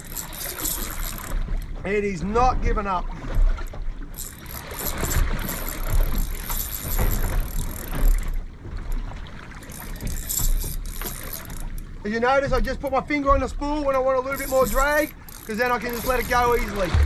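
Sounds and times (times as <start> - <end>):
water washing against boat hull: 0.0 - 17.0
wind buffeting microphone: 0.0 - 17.0.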